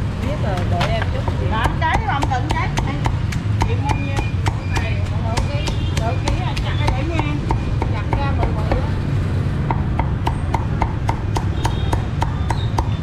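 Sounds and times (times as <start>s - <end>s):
cleaver chopping on wooden block: 0.8s - 8.9s, 9.6s - 13.0s.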